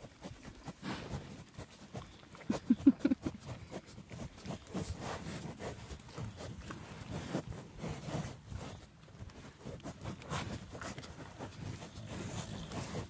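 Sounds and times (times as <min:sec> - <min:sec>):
dog sniffing and snuffling: 0:00.0 - 0:13.0.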